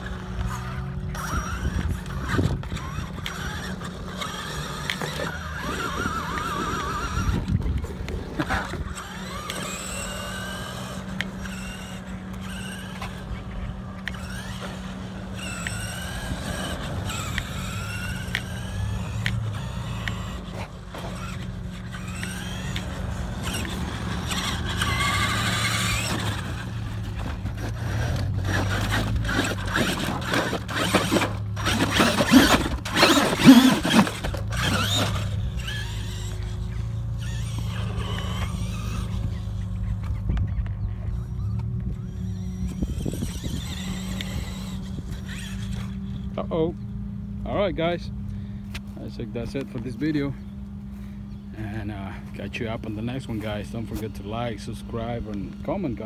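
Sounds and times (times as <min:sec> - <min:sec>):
tyre and chassis clicks and scrapes: 0:00.0 - 0:46.8
electric motors whining: 0:00.0 - 0:56.0.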